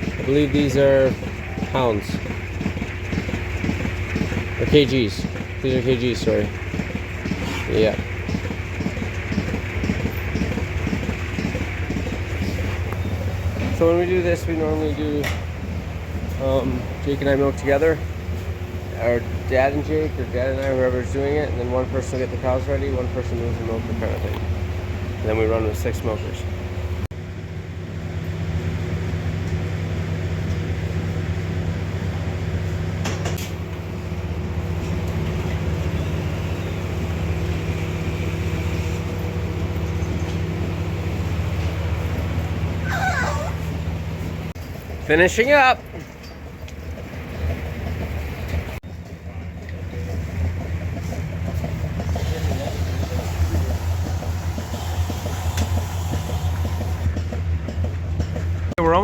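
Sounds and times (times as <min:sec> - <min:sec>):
milking equipment hum: 0:00.0 - 0:27.0, 0:29.2 - 0:48.8, 0:49.6 - 0:57.1.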